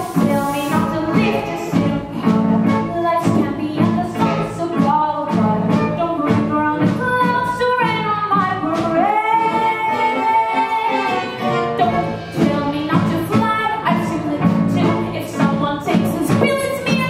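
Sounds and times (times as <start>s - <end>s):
live band playing: 0.0s - 17.0s
woman singing: 0.0s - 17.0s.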